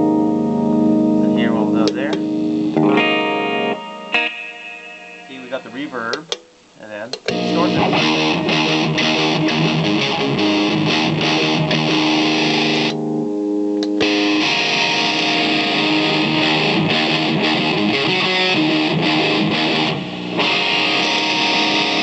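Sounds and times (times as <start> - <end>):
distorted electric guitar strumming: 0.0 - 22.0.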